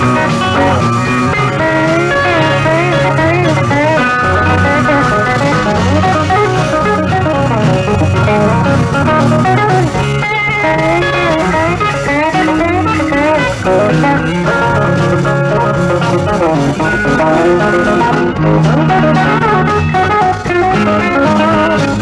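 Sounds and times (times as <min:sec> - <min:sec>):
electric guitar bent notes: 0:00.0 - 0:22.0
rock band playing live: 0:00.0 - 0:22.0.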